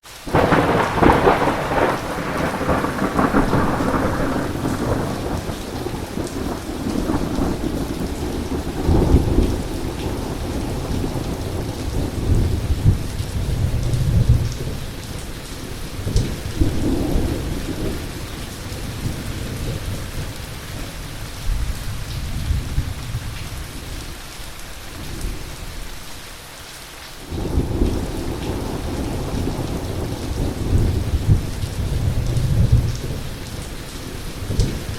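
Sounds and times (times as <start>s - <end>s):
steady rain: 0.0s - 34.9s
rolling thunder rumbles: 0.2s - 24.2s, 27.2s - 34.9s.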